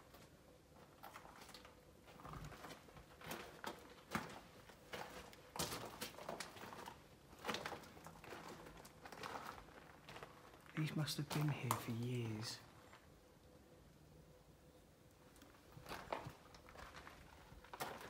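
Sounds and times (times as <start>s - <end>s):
footsteps crunching on ballast: 0.0s - 13.1s, 15.3s - 18.0s.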